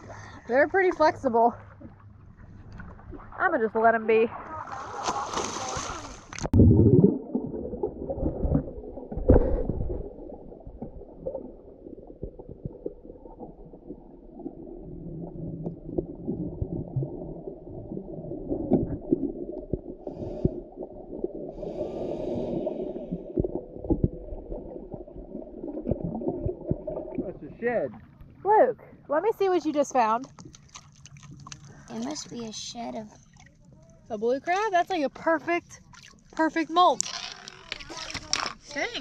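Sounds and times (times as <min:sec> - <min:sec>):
muffled underwater water rumbling: 0:00.0 - 0:39.0.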